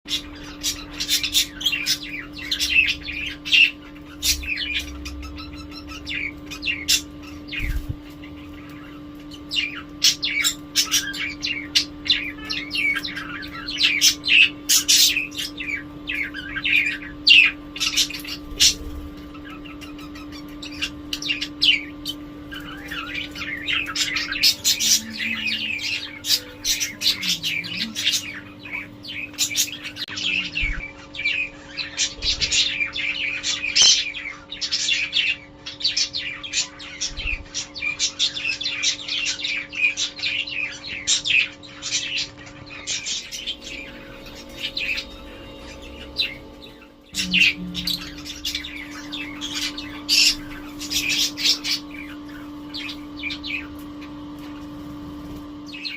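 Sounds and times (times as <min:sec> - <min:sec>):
budgerigars chirping: 0:00.1 - 0:55.9
faint steady hum: 0:00.1 - 0:55.9.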